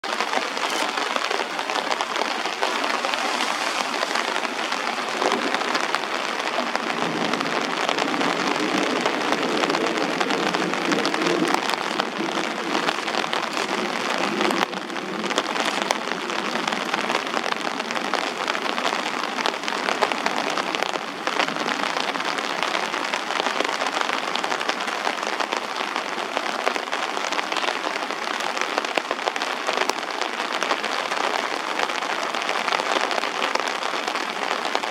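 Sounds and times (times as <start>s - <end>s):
heavy rain splashing: 0.0s - 34.9s.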